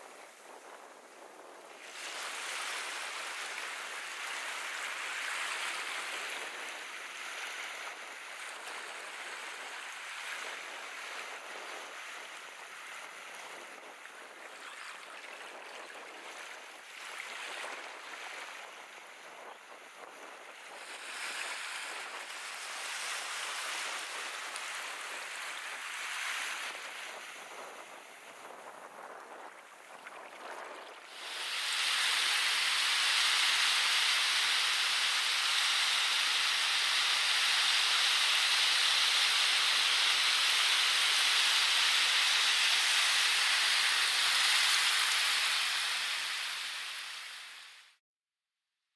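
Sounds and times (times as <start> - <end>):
water lapping on beach: 0.0 - 48.0
water washing over sand: 0.0 - 48.0.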